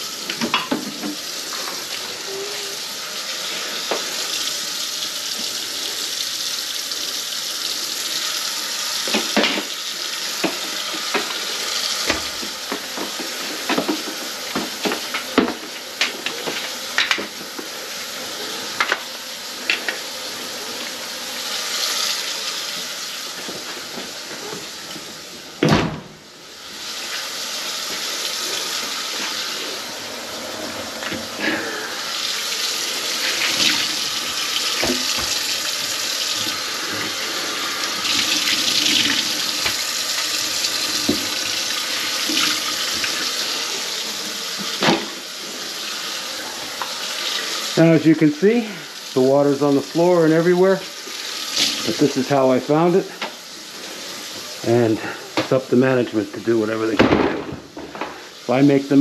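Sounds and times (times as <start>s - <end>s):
faucet water running into sink: 0.0s - 25.5s, 26.4s - 59.0s.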